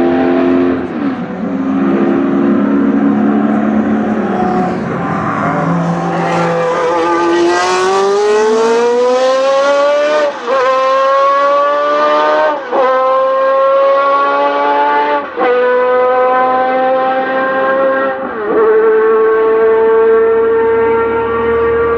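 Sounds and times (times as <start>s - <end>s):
race car engine accelerating: 0.0s - 21.9s.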